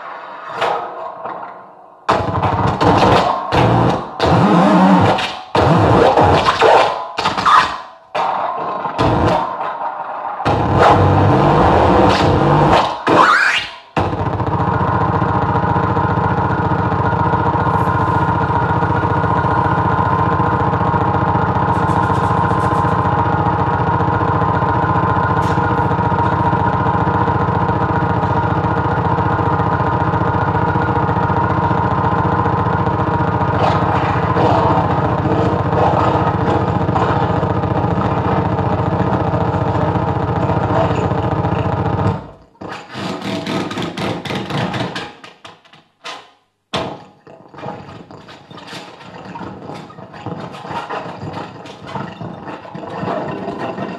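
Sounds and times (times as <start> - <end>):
scattered clattering: 0.6 - 53.9
distorted electronic feedback drone: 2.1 - 7.8, 8.8 - 9.6, 10.4 - 43.7, 47.4 - 53.9.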